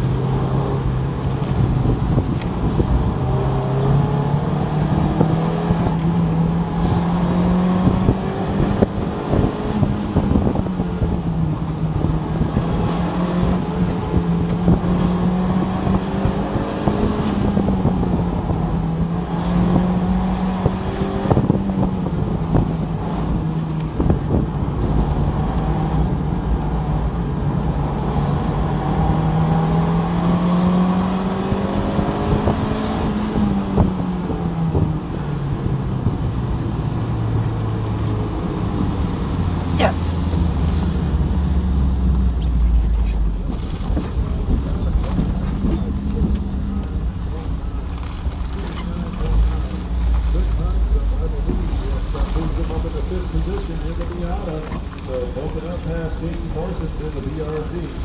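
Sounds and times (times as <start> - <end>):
car engine revving and decelerating: 0.0 - 58.0.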